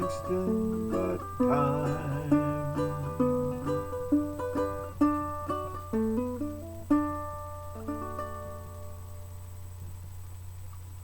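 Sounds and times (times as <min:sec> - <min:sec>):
guitar lick: 0:00.0 - 0:09.0
faint low hum: 0:00.0 - 0:11.0.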